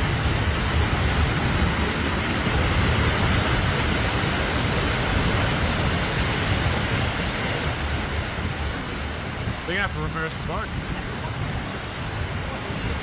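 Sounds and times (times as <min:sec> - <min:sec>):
waves breaking over rocks: 0:00.0 - 0:13.0
wind rumbling on microphone: 0:00.0 - 0:13.0.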